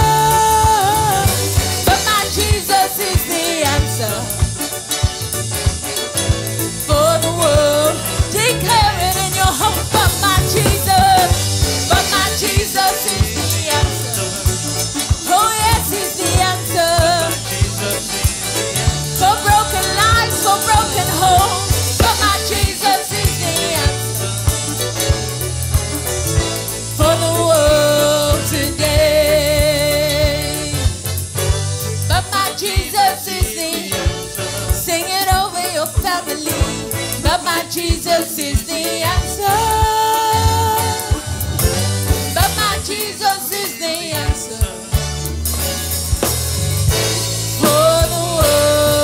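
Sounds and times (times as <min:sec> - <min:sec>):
gospel worship band music: 0:00.0 - 0:49.0.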